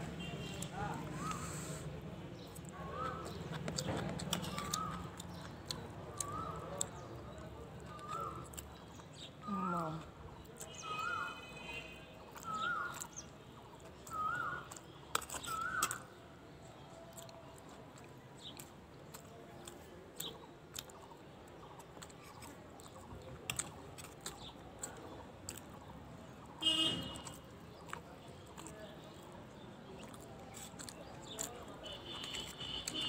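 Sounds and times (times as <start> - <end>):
chewing food: 0.2 - 11.3, 12.2 - 33.0.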